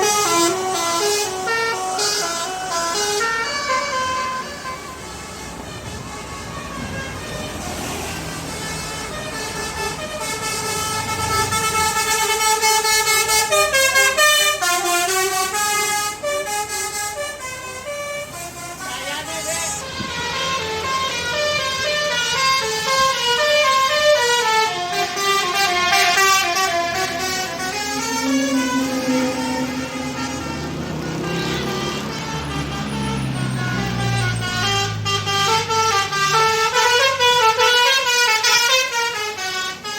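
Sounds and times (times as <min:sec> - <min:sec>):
bus musical air horn tune: 0:00.0 - 0:39.9.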